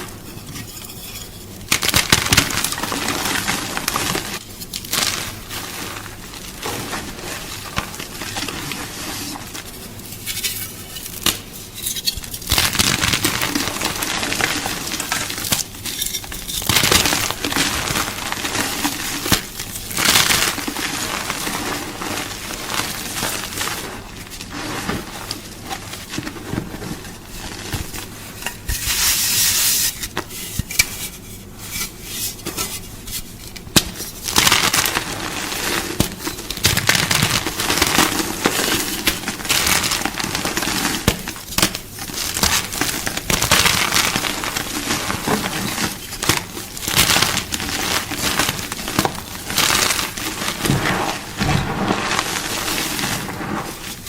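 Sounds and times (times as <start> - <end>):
chalk being crunched: 1.7 - 29.9, 34.0 - 54.0.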